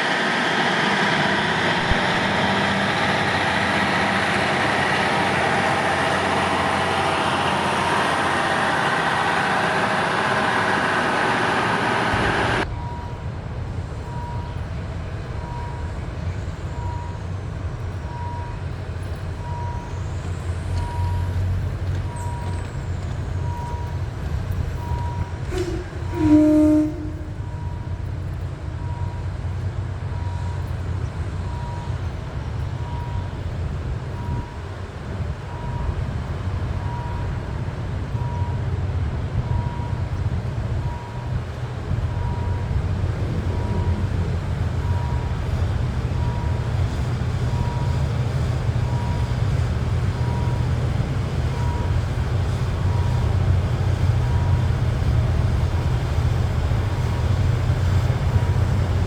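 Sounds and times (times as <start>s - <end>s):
vehicle running low rumble: 0.0s - 59.0s.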